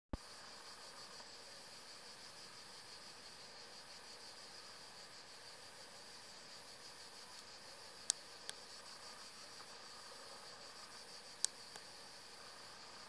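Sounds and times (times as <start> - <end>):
cicadas buzzing: 0.2 - 13.0.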